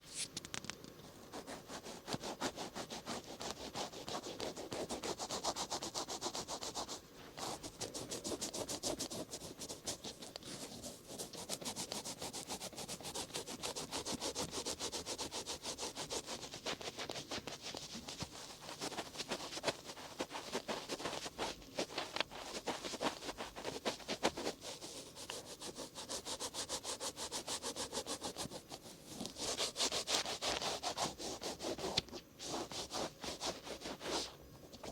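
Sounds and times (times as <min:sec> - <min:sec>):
cotton swab scratching microphone: 0:01.3 - 0:34.9.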